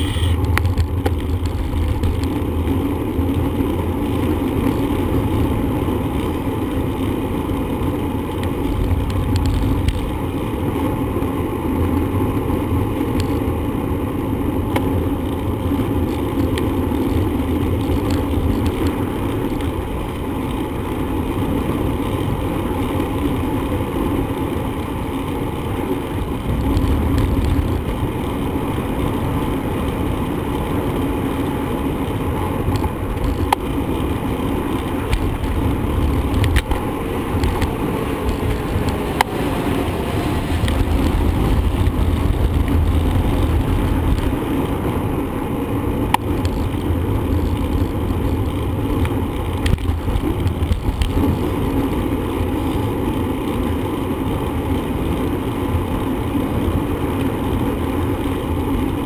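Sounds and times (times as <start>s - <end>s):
bicycle road and wind noise: 0.0s - 59.0s.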